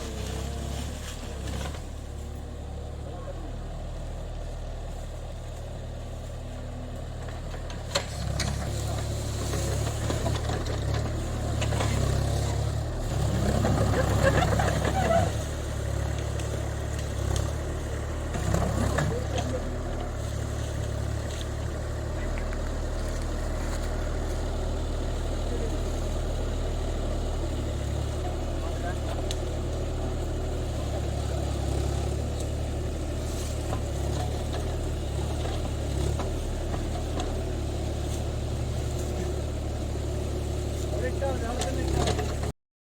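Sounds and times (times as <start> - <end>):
excavator diesel engine running: 0.0 - 42.6.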